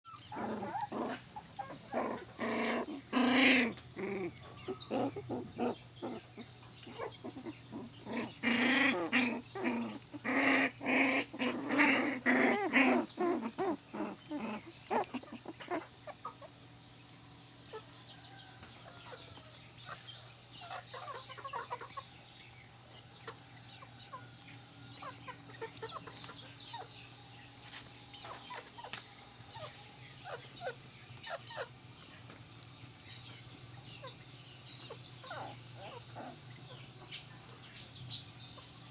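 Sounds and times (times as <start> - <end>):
puppies yelping and barking: 0.1 - 16.7, 18.6 - 31.8, 33.9 - 37.2.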